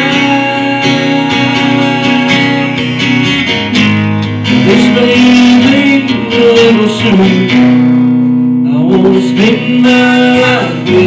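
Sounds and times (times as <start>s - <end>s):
man singing: 0.0s - 3.2s, 4.5s - 7.8s, 8.6s - 11.0s
acoustic guitar strumming: 0.0s - 11.0s.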